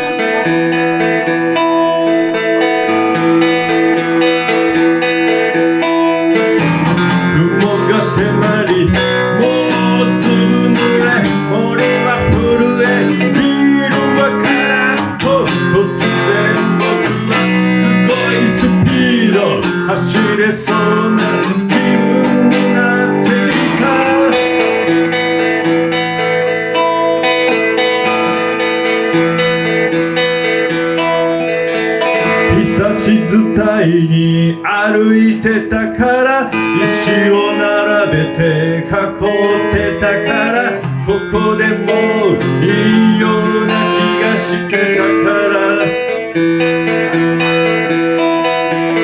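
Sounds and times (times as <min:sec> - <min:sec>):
electric guitar playing: 0:00.0 - 0:49.0.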